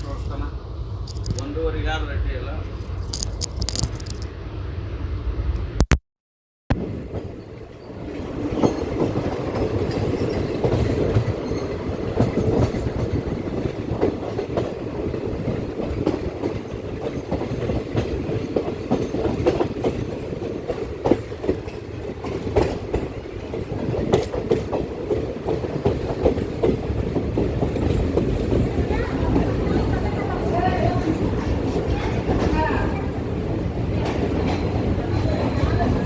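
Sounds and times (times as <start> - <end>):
train running noise: 0.0 - 5.8, 6.7 - 36.0
train wheels clacking over rail joints: 7.0 - 36.0.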